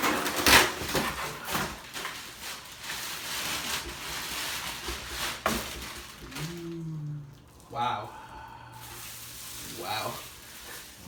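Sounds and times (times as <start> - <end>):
packaging rustling: 0.0 - 6.7, 8.8 - 11.0.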